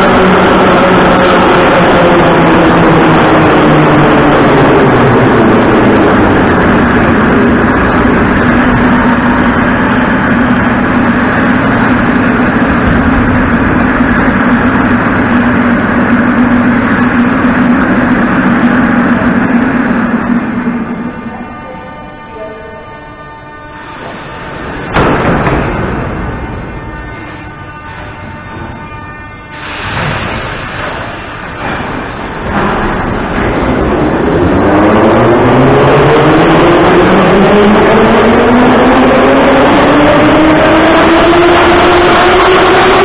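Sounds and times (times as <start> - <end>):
metro train running: 0.0 - 43.0.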